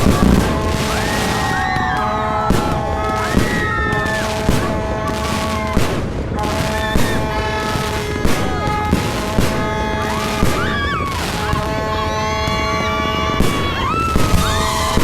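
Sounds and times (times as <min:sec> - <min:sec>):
fireworks banging: 0:00.0 - 0:15.0
fireworks crackling: 0:00.0 - 0:15.0.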